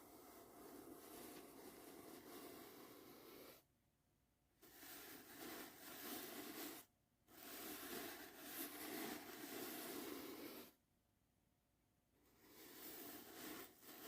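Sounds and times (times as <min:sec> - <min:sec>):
soft brushing strokes: 0:00.0 - 0:03.6, 0:04.6 - 0:10.8, 0:12.2 - 0:14.0.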